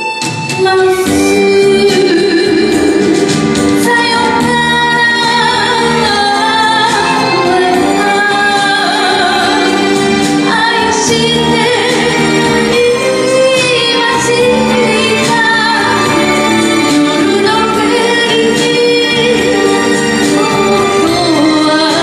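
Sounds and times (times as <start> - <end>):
instrumental accompaniment: 0.0 - 22.0
woman singing ballad into microphone: 0.6 - 22.0.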